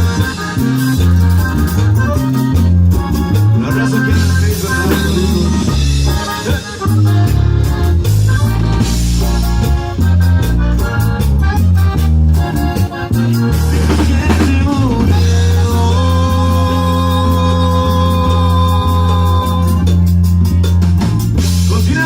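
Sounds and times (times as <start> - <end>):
deep bass notes: 0.0 - 22.0
drum kit: 0.0 - 22.0
guitar: 0.0 - 22.0
keyboard chord: 0.0 - 22.0.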